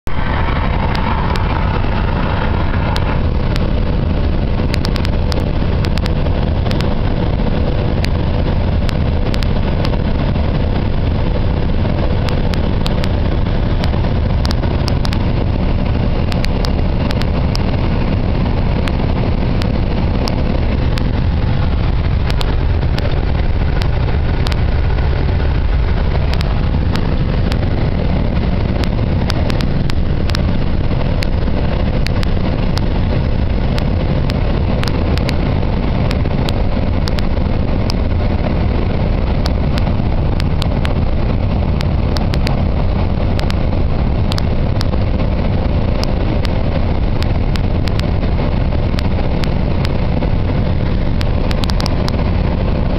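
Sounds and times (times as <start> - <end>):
microphone clicks and crackles: 0.0 - 52.9
wind and road noise: 0.0 - 52.9.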